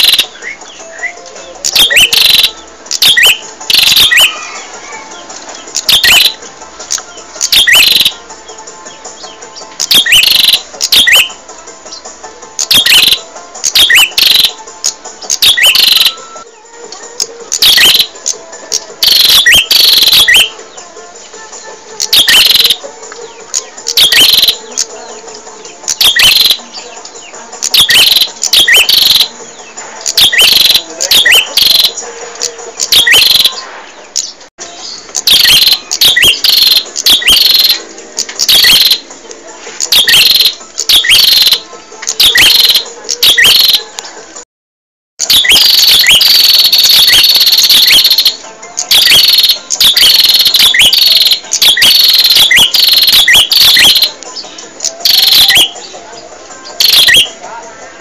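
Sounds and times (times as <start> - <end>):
bird sharp rapid chirps: 0.0 - 16.2, 17.2 - 20.7, 22.0 - 43.9, 45.2 - 56.0, 56.7 - 57.4.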